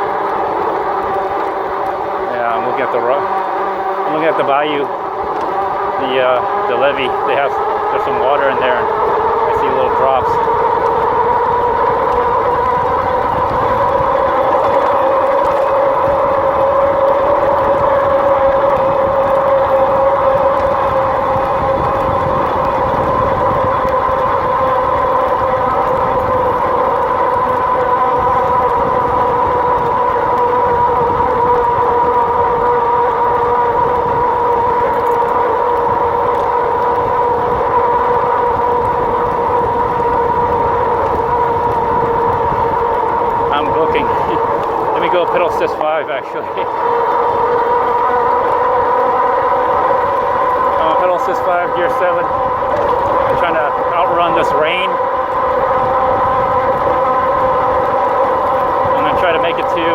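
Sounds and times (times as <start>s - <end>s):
electric bike motor whine: 0.0s - 59.9s
tyre and wind noise: 10.2s - 59.9s.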